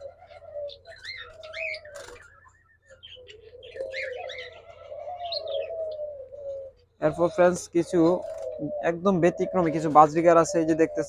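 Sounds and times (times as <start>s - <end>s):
dove cooing: 0.0s - 11.0s
small birds chirping: 0.0s - 11.0s.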